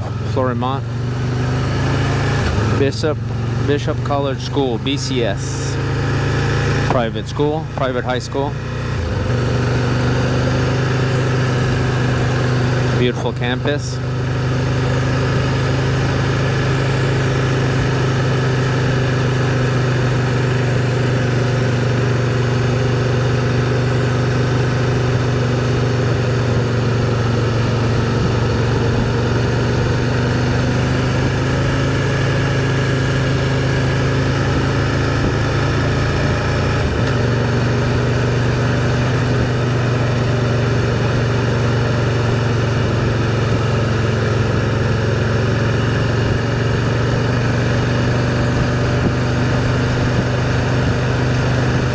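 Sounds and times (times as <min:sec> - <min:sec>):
motorcycle engine droning: 0:00.0 - 0:51.9
road and wind noise: 0:00.0 - 0:51.9.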